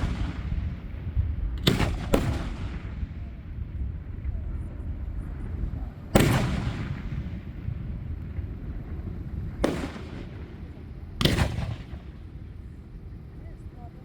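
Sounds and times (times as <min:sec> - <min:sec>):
fireworks booming: 0:00.0 - 0:12.8.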